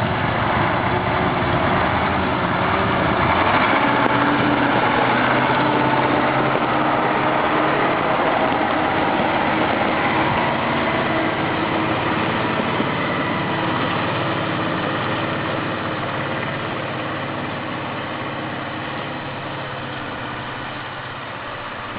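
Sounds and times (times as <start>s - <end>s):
heavy truck engine running: 0.0s - 21.9s.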